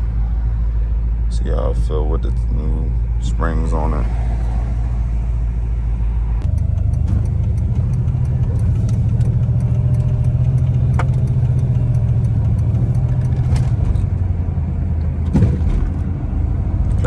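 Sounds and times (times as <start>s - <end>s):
car engine running while driving: 0.0s - 17.0s.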